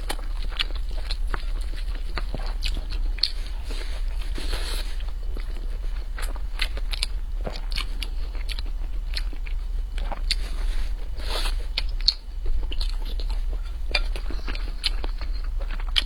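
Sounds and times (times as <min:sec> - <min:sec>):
chewing with wet mouth clicks: 0:00.0 - 0:04.3, 0:05.0 - 0:16.0.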